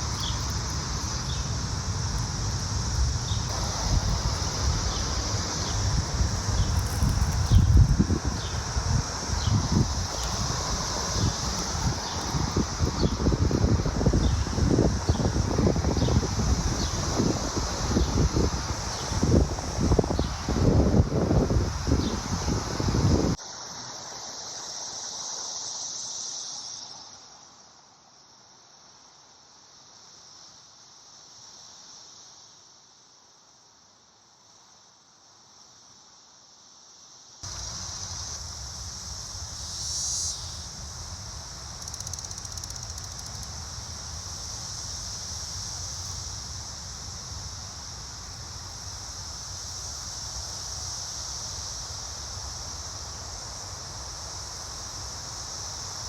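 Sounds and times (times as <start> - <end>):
cicadas chorusing: 0.0 - 56.0
nearby cicada buzzing: 0.0 - 56.0.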